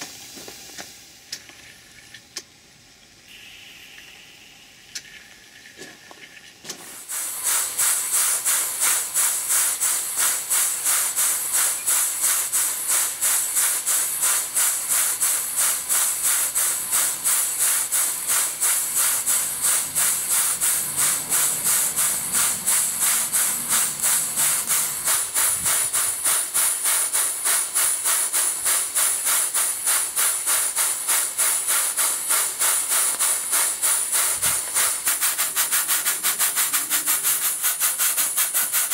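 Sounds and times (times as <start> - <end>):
steam pump exhaust puffing: 3.3 - 38.9.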